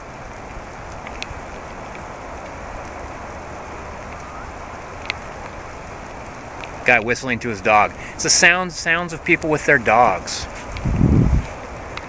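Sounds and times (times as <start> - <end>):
raindrop ticks: 0.0 - 12.0
steady rain falling: 0.0 - 12.0.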